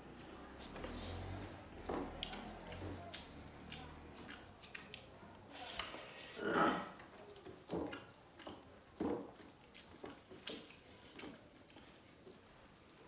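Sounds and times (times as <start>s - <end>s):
wet squelching of eating by hand: 0.0s - 13.0s.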